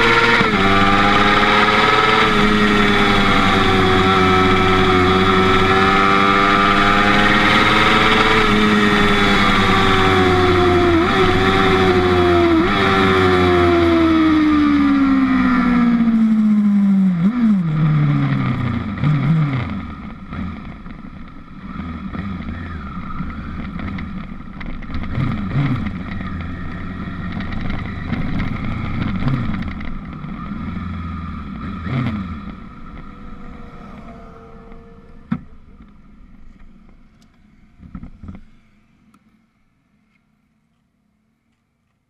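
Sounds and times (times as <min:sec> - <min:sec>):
motorcycle engine revving: 0:00.0 - 0:37.1.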